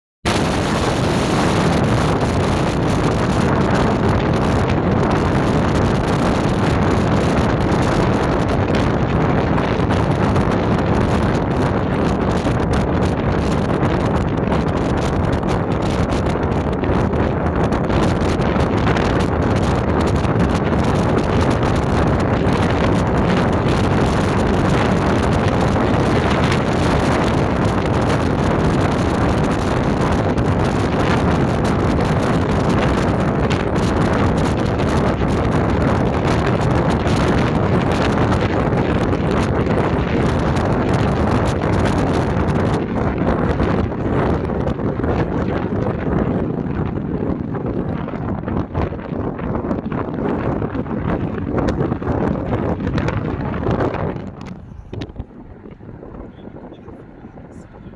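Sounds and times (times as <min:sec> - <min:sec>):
wind buffeting microphone: 0:00.3 - 0:57.9.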